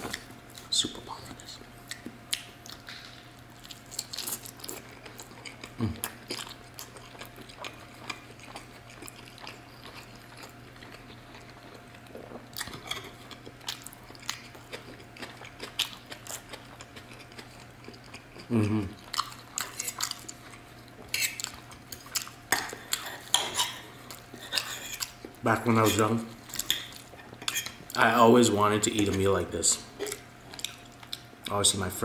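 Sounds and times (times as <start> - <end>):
wet chewing mouth sounds: 0.0 - 28.0, 30.0 - 31.6.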